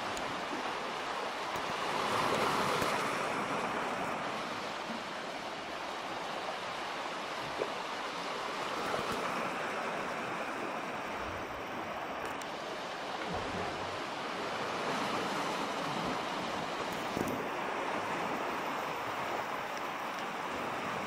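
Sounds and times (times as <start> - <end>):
ocean surf: 0.0 - 21.0.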